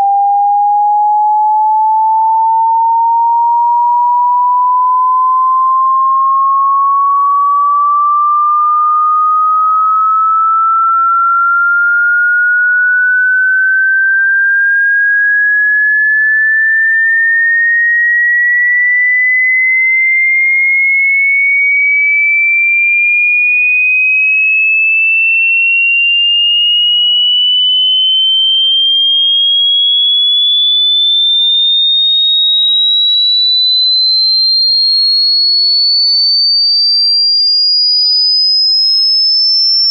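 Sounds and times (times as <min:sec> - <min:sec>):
rising electronic sine tone: 0:00.0 - 0:39.9.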